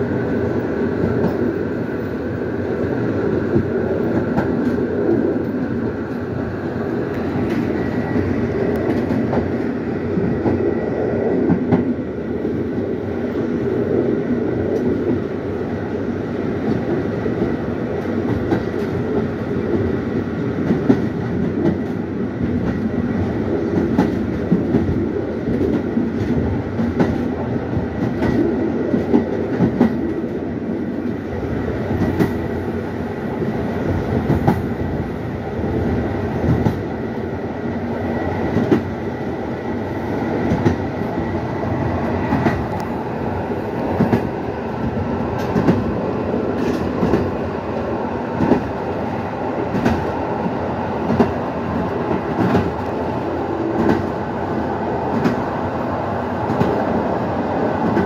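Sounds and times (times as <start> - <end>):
rail joint clicks: 0.0 - 58.0
train wheels rumbling on rails: 0.0 - 58.0.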